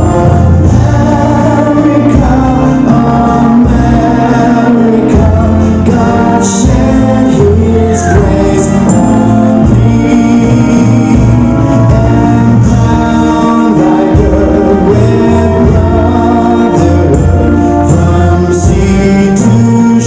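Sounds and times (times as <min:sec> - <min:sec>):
children singing: 0:00.0 - 0:20.0
deep bass notes: 0:00.0 - 0:20.0.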